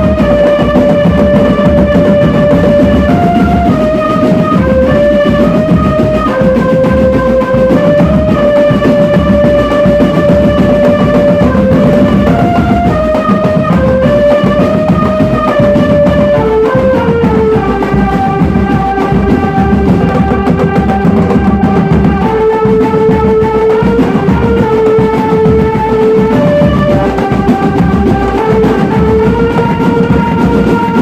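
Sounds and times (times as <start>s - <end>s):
dense steady drumming: 0.0s - 31.0s
held melody notes: 0.0s - 31.0s.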